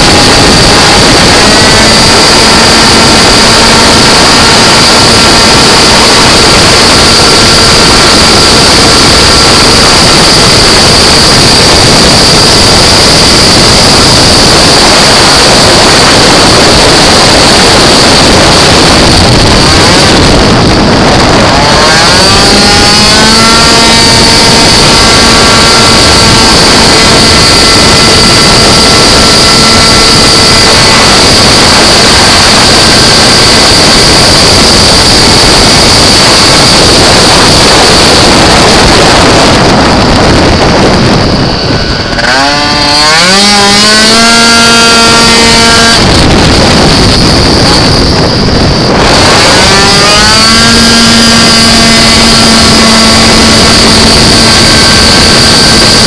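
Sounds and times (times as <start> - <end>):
scooter engine running flat out: 0.0 - 56.0
wind noise: 0.0 - 56.0.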